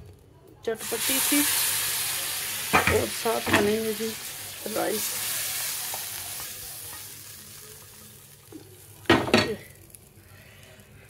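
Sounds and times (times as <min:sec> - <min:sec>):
hot oil sizzling in pot: 0:00.6 - 0:11.0.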